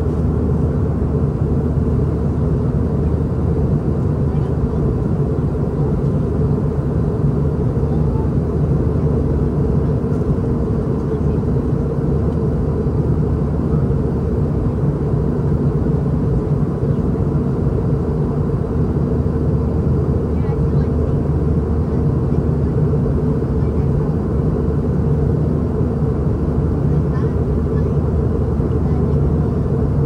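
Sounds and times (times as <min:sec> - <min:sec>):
airliner cabin drone: 0:00.0 - 0:30.0.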